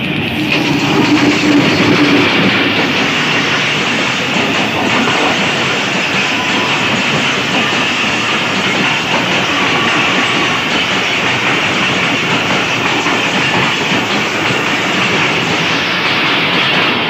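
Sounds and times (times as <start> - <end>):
train coaches rumbling past: 0.0 - 17.0
wheels clacking over rail joints: 0.0 - 17.0.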